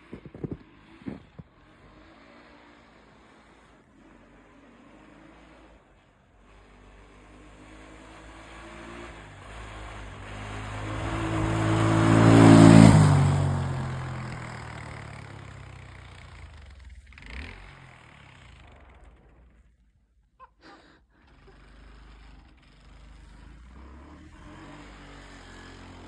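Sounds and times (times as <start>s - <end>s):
atv engine passing by: 0.1s - 19.8s, 21.3s - 26.0s.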